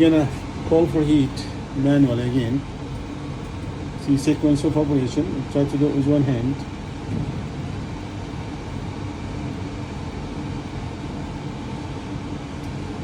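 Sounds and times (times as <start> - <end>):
furnace fan humming: 0.0 - 13.0.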